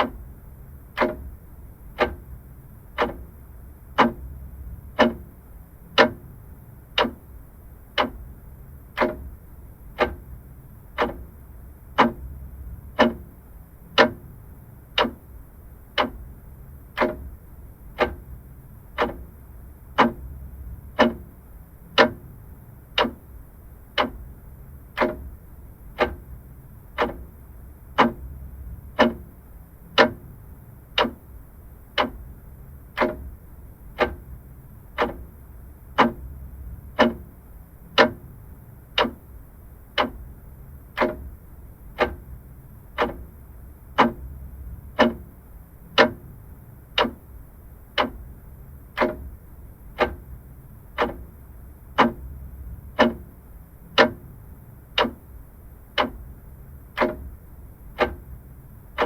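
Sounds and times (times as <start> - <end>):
clock ticking: 0.0 - 59.0
faint low hum: 0.0 - 59.0.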